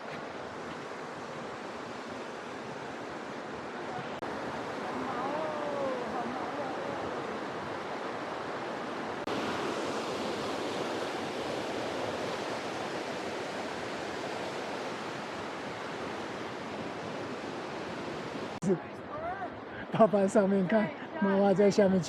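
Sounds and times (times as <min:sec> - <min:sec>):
fast-flowing creek water: 0:00.0 - 0:22.0.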